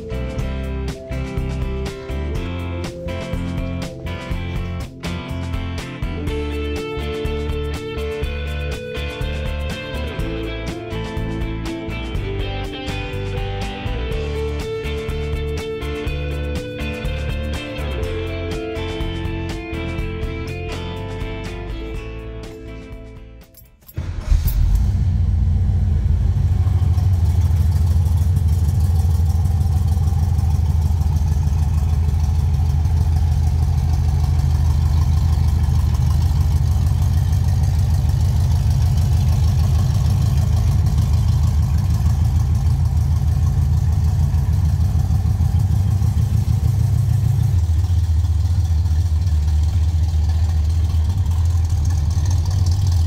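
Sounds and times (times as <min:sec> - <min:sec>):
vee eight engine starting and idling: 0:00.0 - 0:53.0.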